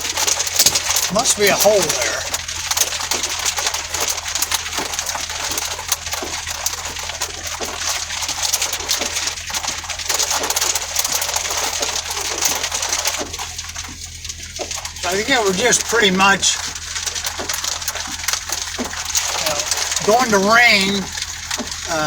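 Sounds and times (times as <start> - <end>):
heavy rain on a car: 0.0 - 22.0.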